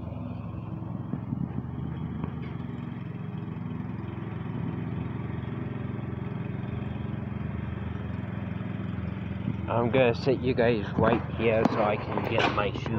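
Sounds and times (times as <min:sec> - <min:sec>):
lawn mower engine running: 0:00.0 - 0:12.9.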